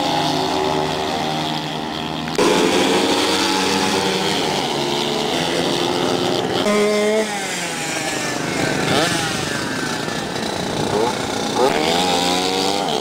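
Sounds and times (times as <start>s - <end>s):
small motorcycle engines racing: 0.0s - 13.0s.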